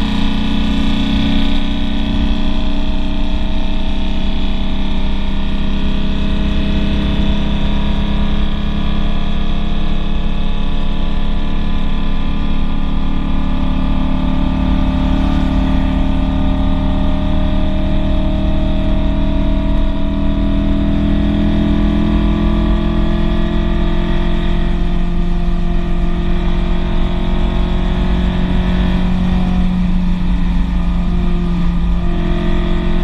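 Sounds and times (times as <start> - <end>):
wind and road noise: 0.0 - 12.3, 14.6 - 33.0
car engine accelerating: 0.0 - 33.0.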